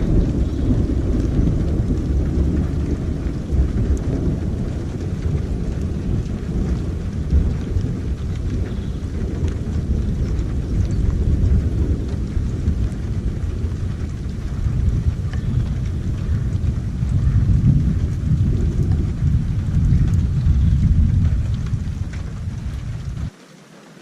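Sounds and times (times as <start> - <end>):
low rumble of thunder: 0.0 - 23.4
steady rain: 0.0 - 24.0.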